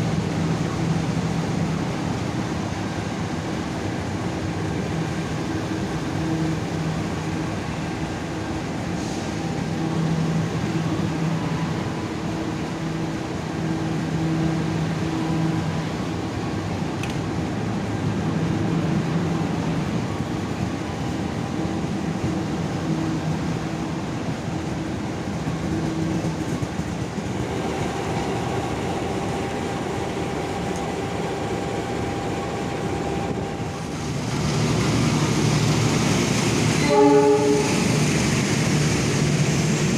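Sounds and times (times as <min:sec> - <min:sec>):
low humming drone: 0:00.0 - 0:38.1
train rumbling: 0:00.0 - 0:39.9.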